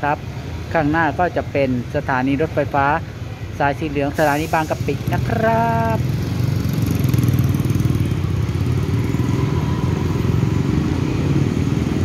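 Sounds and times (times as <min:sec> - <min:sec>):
motorcycle and car traffic: 0:00.0 - 0:12.0.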